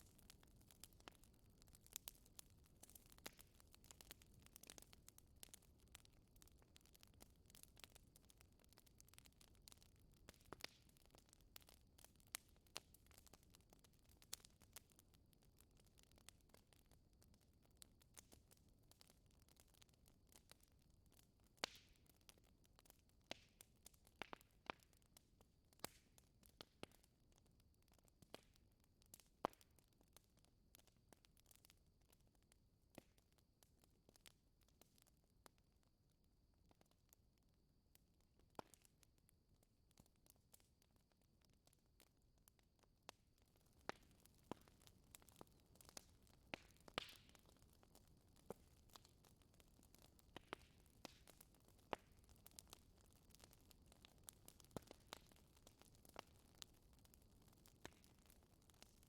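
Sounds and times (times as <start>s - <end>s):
wood fire crackling: 0.0s - 35.6s, 36.5s - 59.0s.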